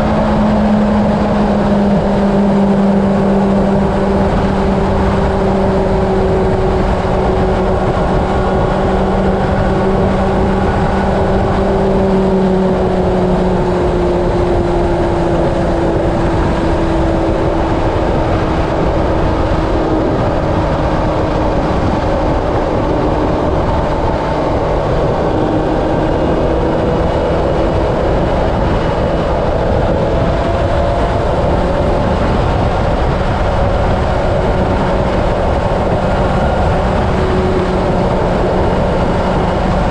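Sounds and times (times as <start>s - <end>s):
motorcycle engine at speed: 0.0s - 39.9s
wind and road noise: 0.0s - 39.9s.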